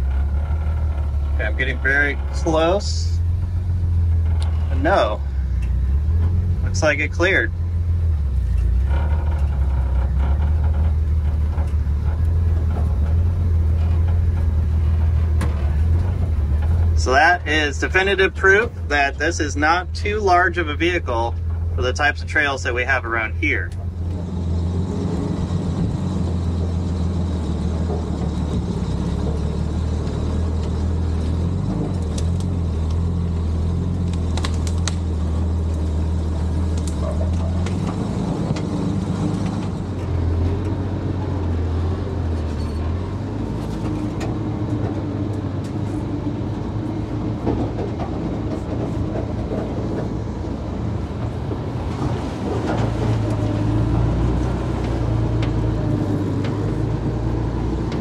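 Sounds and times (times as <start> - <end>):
truck engine running at low speed: 0.0 - 58.0.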